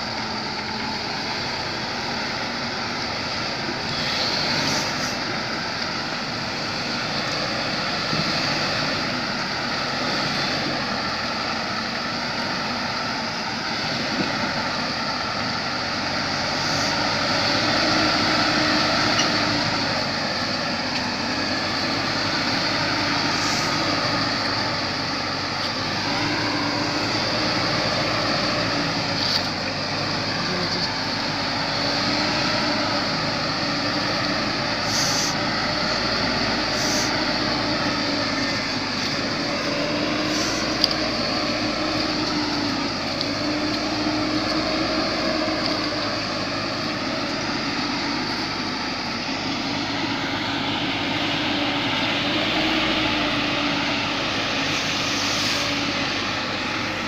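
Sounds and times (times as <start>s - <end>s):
road noise hiss: 0.0s - 57.0s
vehicle engine running: 0.0s - 57.0s.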